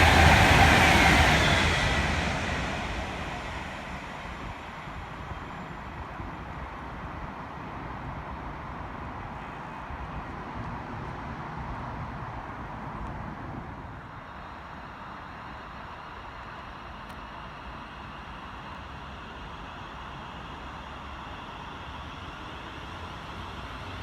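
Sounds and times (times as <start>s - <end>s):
train rushing and rumbling: 0.0s - 24.0s.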